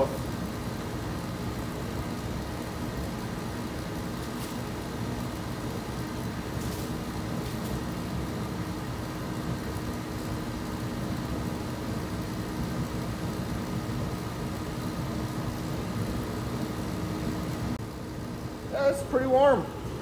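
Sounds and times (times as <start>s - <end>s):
fan hum: 0.0s - 20.0s
heater burner rushing: 0.0s - 20.0s.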